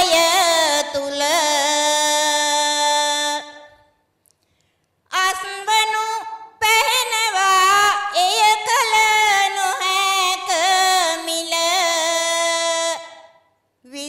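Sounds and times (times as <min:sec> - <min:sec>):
woman singing unaccompanied: 0:00.0 - 0:03.8, 0:05.1 - 0:14.0.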